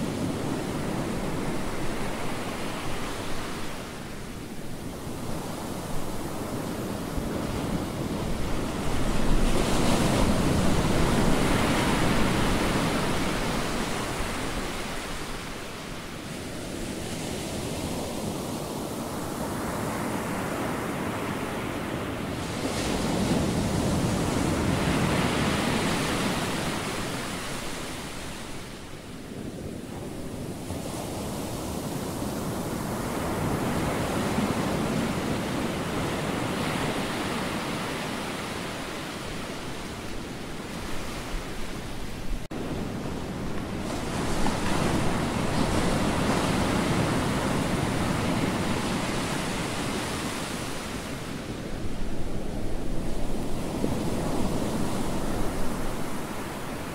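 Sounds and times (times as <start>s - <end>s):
waves breaking on beach: 0.0s - 56.9s.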